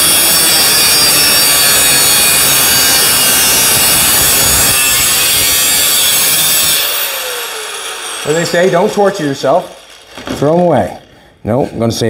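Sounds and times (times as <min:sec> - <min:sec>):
grinder cutting sheet metal: 0:00.0 - 0:11.3.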